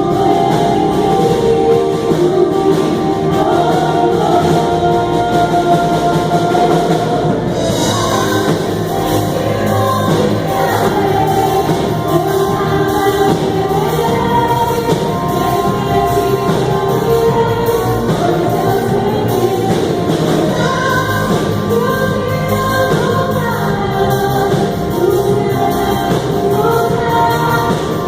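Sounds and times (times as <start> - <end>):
instrumental accompaniment: 0.0 - 28.0
voices singing together: 0.0 - 28.0.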